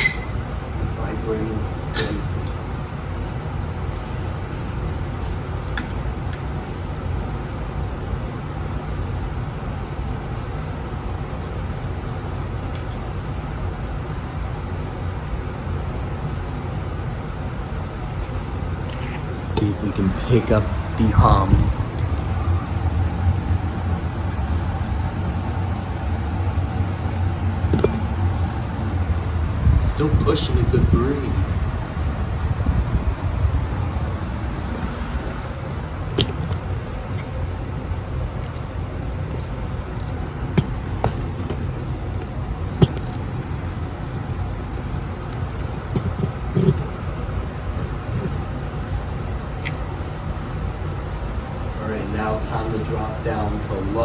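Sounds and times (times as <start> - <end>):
ceiling fan motor humming: 0.0 - 54.0.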